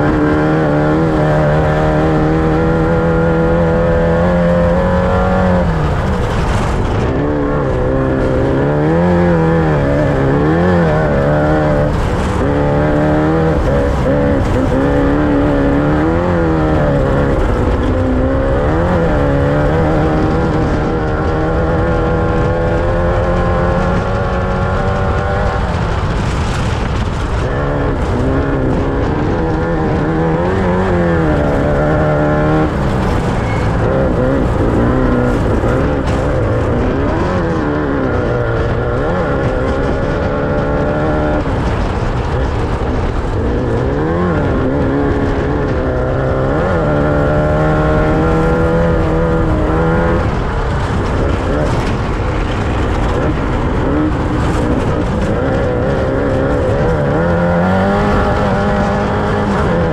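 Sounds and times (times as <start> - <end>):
constant rush of noise: 0.0 - 59.9
race vehicle engine revving: 0.0 - 59.9.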